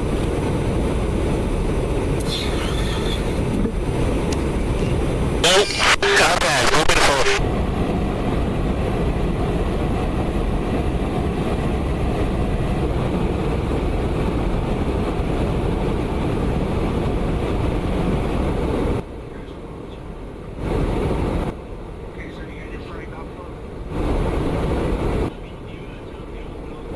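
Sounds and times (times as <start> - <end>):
jet aircraft noise: 0.0 - 26.9.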